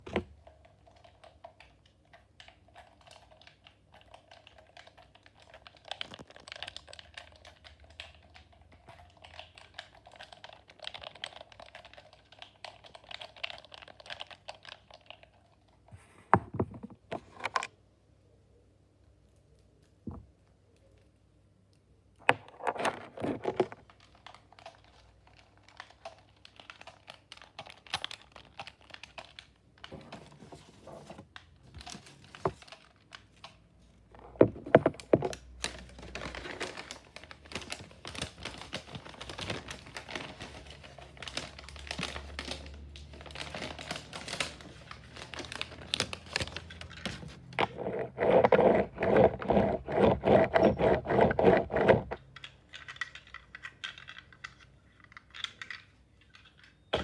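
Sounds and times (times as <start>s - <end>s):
crackly clicks and crinkles: 0.0s - 57.0s.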